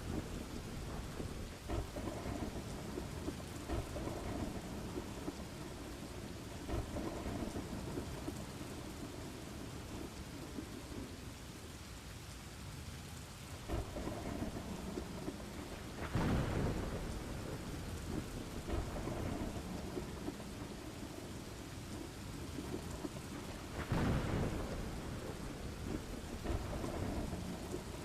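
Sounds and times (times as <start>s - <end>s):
rolling thunder: 0.0s - 11.1s, 13.6s - 28.0s
steady rain: 0.0s - 28.0s.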